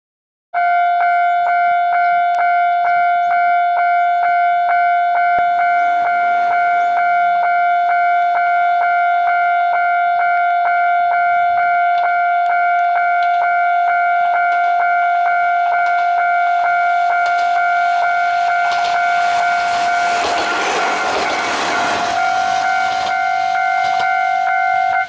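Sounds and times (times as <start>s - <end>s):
level-crossing warning bell: 0.6s - 25.0s.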